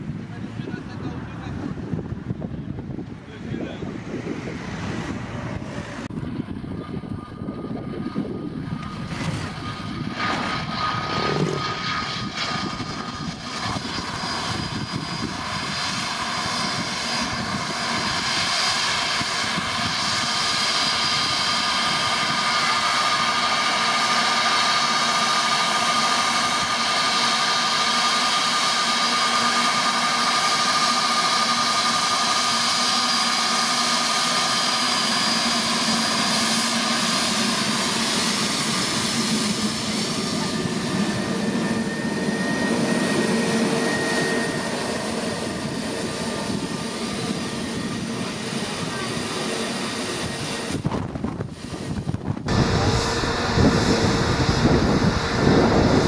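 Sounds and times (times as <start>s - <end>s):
wind buffeting microphone: 0.0s - 24.8s, 34.0s - 56.0s
jet engines whining: 0.0s - 56.0s.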